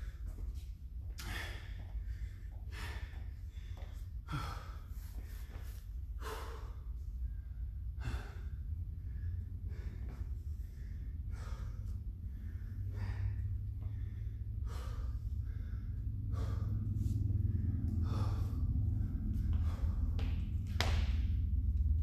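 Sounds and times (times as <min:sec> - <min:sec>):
man breathing hard: 0:00.0 - 0:21.8
steady low hum: 0:00.0 - 0:22.0.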